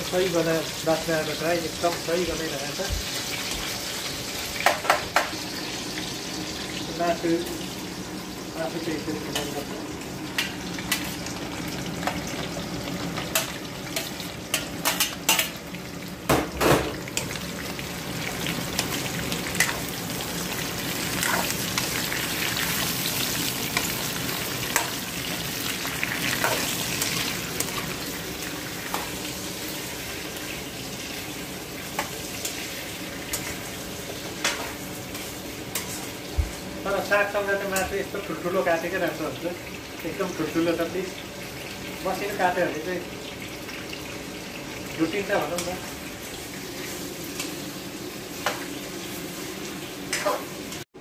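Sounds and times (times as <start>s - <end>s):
meat sizzling in hot oil: 0.0s - 51.0s.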